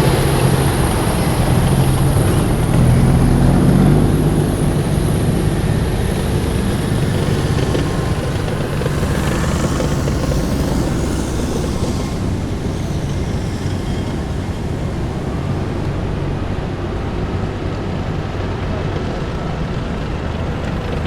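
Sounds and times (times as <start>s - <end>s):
heavy vehicles driving past: 0.0s - 21.0s.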